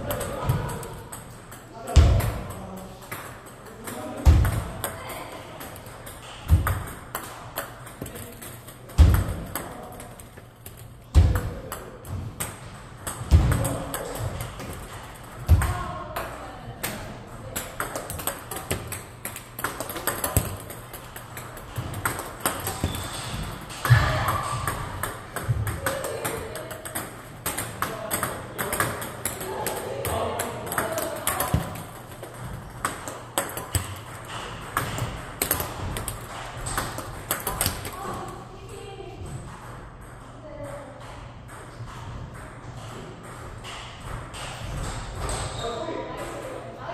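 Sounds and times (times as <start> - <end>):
table tennis ball clicking: 0.0 - 38.4.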